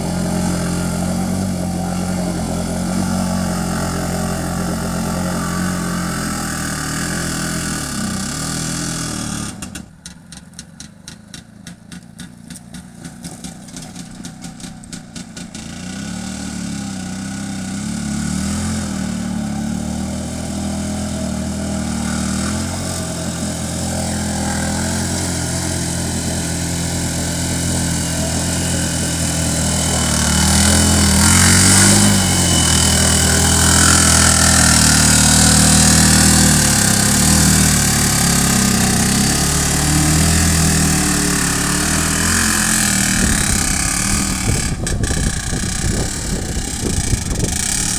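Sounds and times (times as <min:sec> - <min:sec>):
vehicle engine running: 0:00.0 - 0:47.9.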